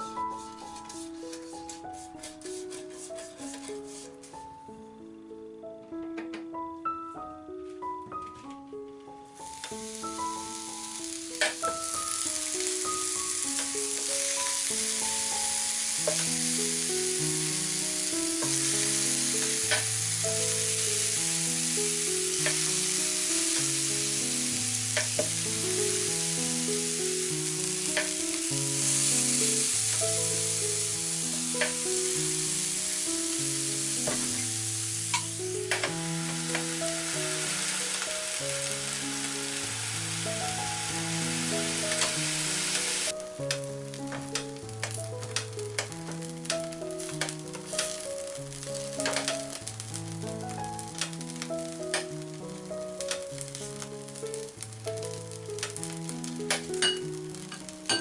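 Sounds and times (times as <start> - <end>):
vegetables sizzling on a grill: 0.0 - 4.6, 9.2 - 58.0.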